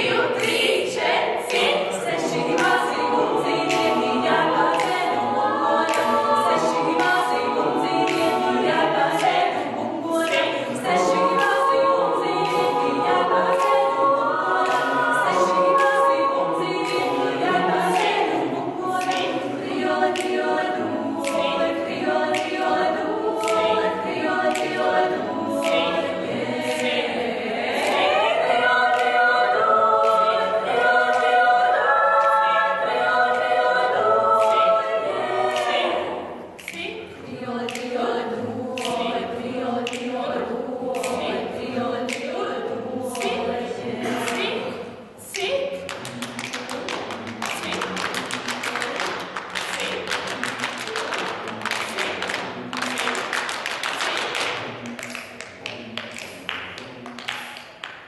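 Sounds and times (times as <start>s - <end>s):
vocal ensemble singing a cappella: 0.0s - 58.0s.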